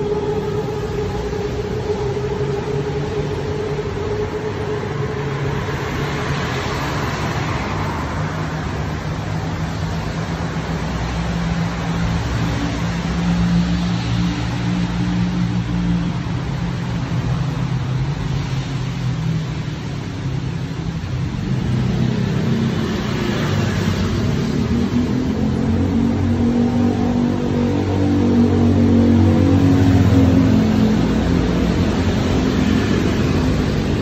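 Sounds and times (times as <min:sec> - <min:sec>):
traffic noise: 0:00.0 - 0:34.0
vehicle engine accelerating: 0:00.0 - 0:34.0.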